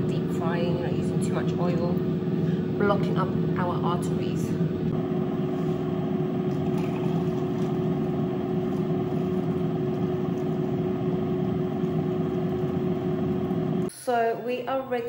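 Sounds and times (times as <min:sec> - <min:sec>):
kitchen appliance whirring hum: 0:00.0 - 0:15.0.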